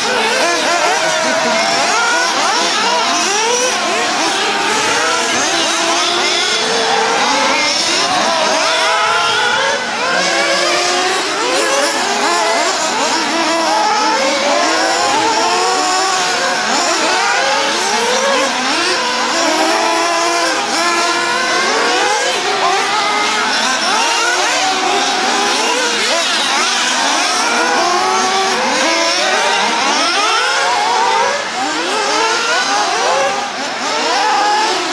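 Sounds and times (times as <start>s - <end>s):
rc car engines revving: 0.0s - 34.9s.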